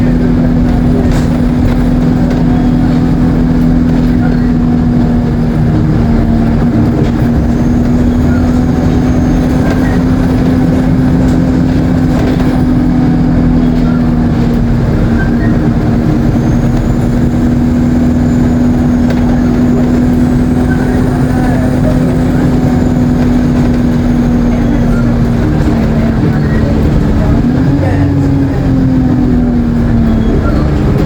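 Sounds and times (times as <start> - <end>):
bus engine droning: 0.0 - 31.0
turbocharger whine: 0.0 - 31.0.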